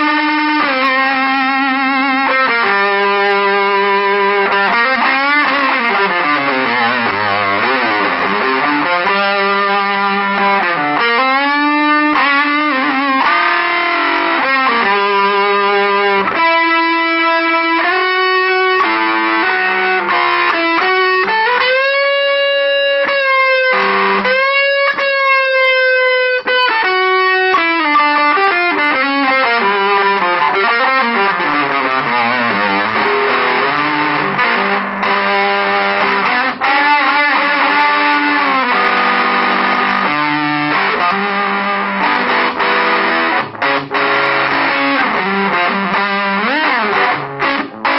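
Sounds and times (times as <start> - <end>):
distorted electric guitar: 0.0 - 47.9.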